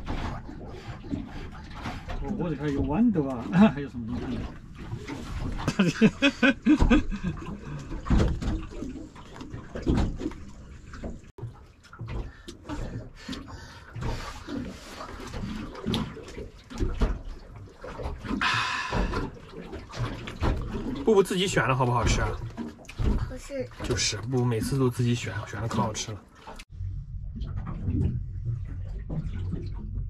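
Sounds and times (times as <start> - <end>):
water lapping against boat hull: 0.0 - 30.0.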